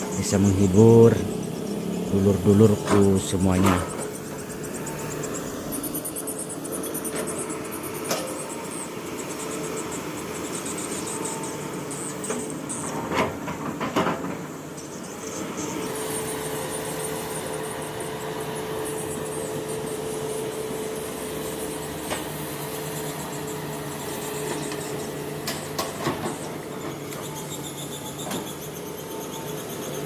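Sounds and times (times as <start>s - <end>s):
whining tone: 0.0s - 13.9s, 14.6s - 30.0s
excavator engine and hydraulics: 0.0s - 30.0s.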